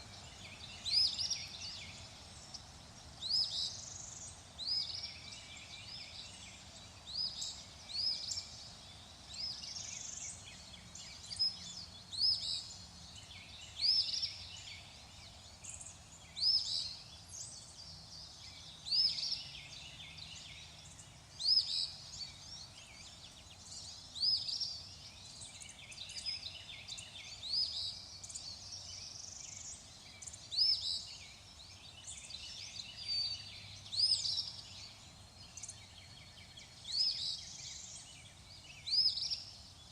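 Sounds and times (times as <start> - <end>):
birds chirping: 0.0 - 39.9
faint steady hiss: 0.0 - 39.9.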